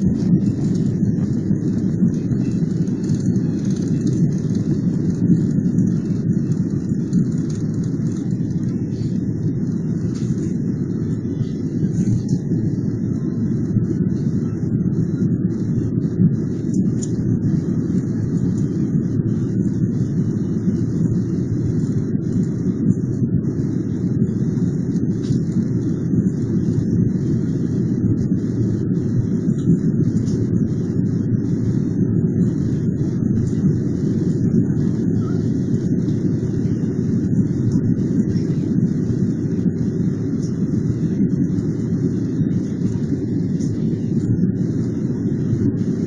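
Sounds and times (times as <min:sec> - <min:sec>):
jet engines rumbling in cabin: 0:00.0 - 0:46.0.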